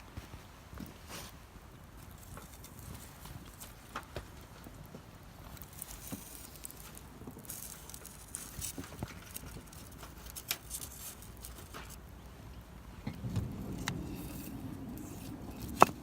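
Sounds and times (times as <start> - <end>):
low steady fire rumble: 0.0 - 16.0
campfire crackling: 1.6 - 16.0.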